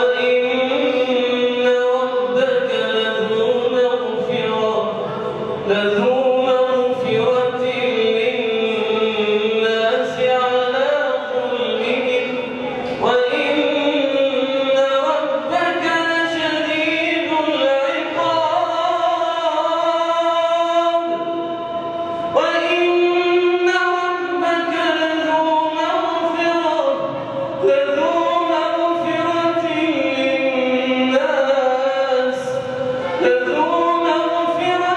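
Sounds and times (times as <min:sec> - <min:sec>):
man chanting melodic recitation: 0:00.0 - 0:34.9.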